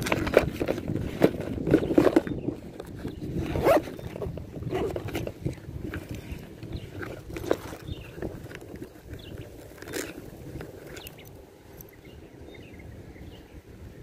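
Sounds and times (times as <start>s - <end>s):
clothing rubbing on microphone: 0.0s - 11.4s.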